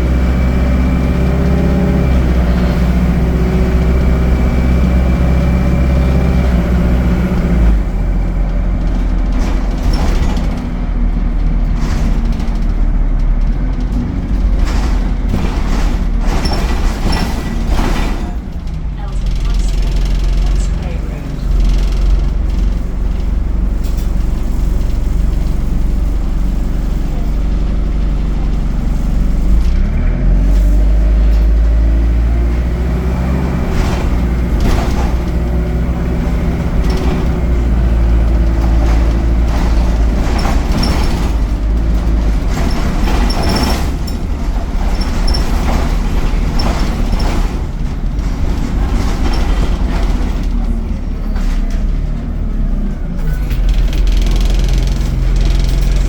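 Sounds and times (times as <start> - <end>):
bus engine: 0.0 - 56.0
bus knocks and rattles: 0.0 - 56.0.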